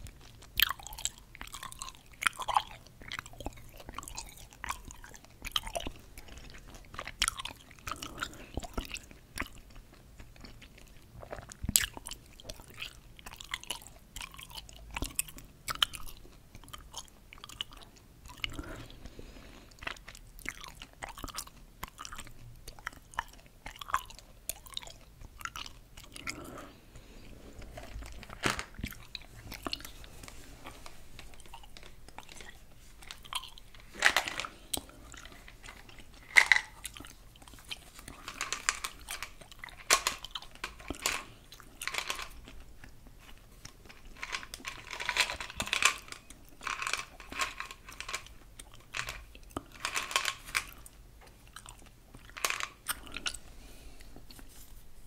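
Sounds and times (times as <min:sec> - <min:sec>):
chewing gum: 0:00.0 - 0:54.4.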